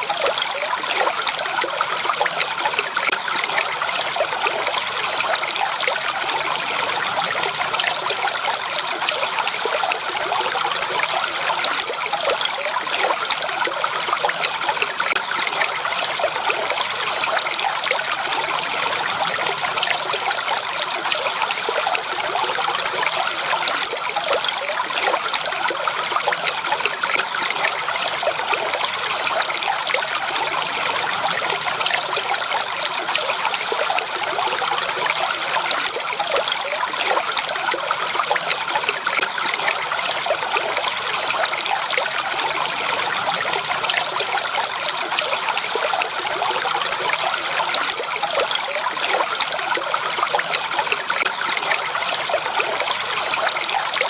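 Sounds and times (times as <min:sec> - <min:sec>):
water trickling and babbling: 0:00.0 - 0:54.0.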